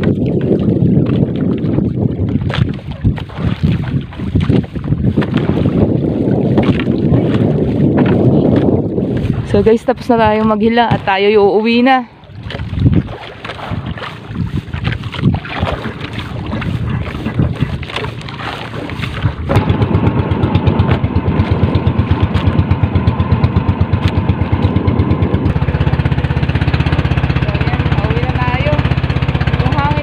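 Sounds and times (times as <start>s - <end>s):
boat engine chugging: 0.0s - 30.0s
water noise: 0.0s - 30.0s.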